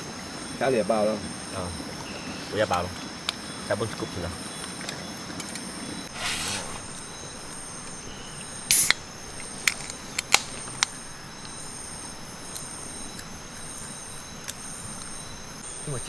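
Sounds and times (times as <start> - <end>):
jungle insects droning: 0.0 - 16.0
outdoor hiss: 0.0 - 16.0.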